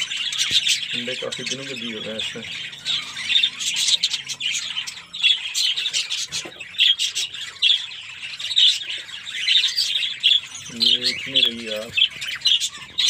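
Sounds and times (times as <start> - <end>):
budgerigars chattering and squawking: 0.0 - 13.0.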